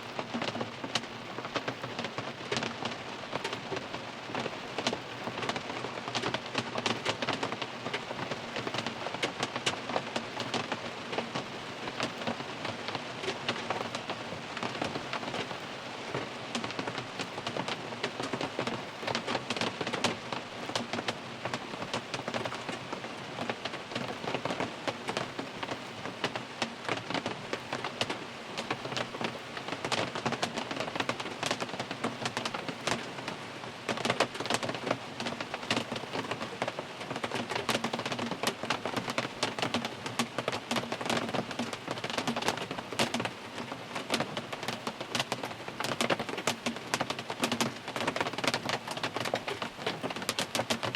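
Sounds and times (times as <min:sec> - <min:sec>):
rain drumming on a car roof: 0:00.0 - 0:50.9.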